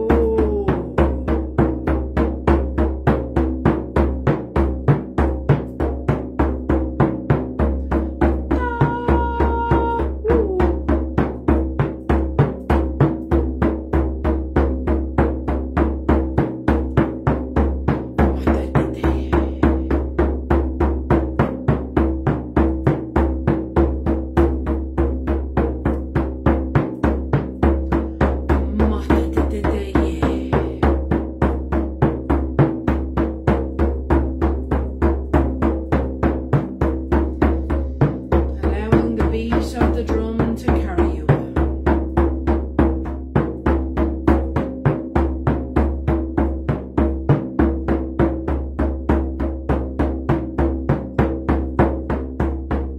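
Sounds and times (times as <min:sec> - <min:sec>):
frame drum beating: 0:00.0 - 0:52.9.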